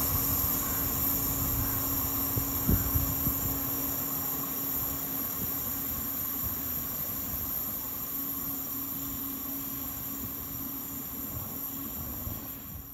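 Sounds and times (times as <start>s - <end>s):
constant low hum: 0.0s - 12.9s
train rumbling on rails: 0.0s - 12.9s.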